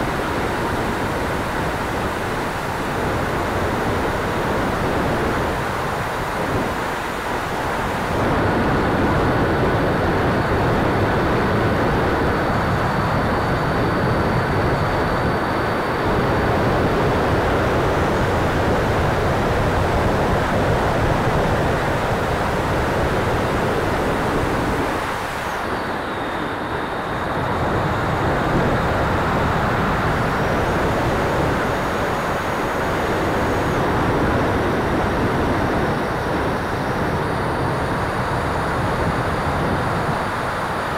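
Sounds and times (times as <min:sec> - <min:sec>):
electric ducted fan whine: 0:00.0 - 0:40.9.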